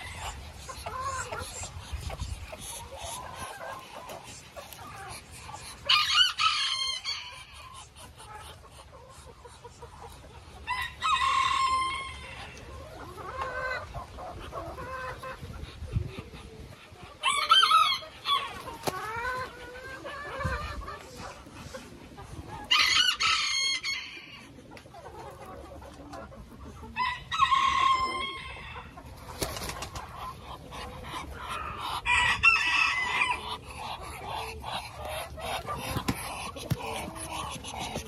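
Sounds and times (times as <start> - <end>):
chickens clucking: 0.0 - 38.0.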